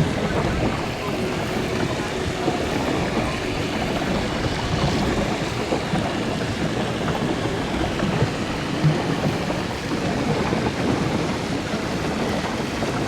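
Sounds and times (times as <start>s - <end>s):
water churning and splashing: 0.0s - 13.0s.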